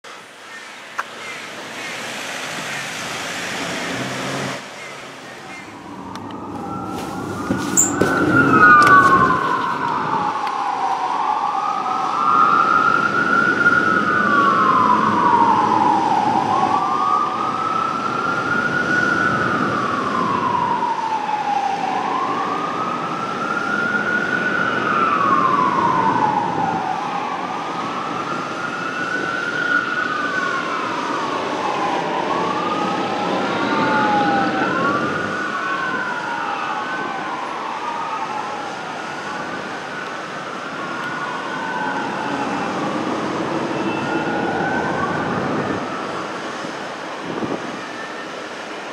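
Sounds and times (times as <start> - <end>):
fire engine siren wailing: 2.2 - 48.9.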